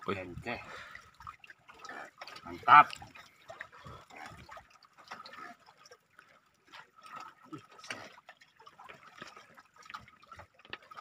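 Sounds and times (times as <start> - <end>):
water lapping and dripping: 0.0 - 11.0.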